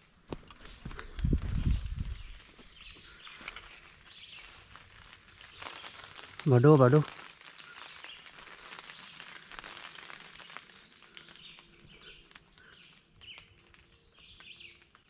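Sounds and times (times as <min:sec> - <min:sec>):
faint ticks and rustles: 0:00.0 - 0:15.0.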